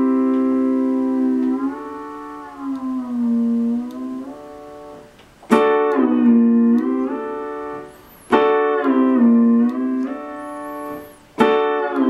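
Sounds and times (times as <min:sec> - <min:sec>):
synthesizer note pitch bending: 0:00.0 - 0:11.3.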